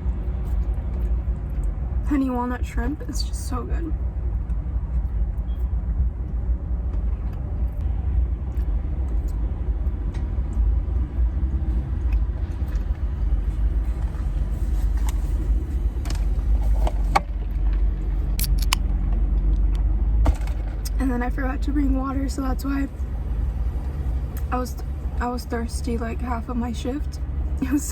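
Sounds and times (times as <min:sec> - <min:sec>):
car idling inside cabin: 0:00.0 - 0:18.3, 0:20.9 - 0:27.9.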